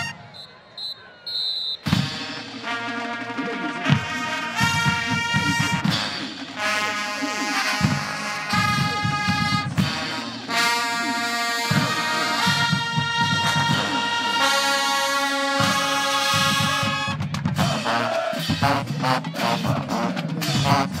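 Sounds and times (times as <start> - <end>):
brass section chords: 0.0 - 0.4, 1.8 - 21.0
drum line beat: 1.8 - 14.4, 15.6 - 21.0.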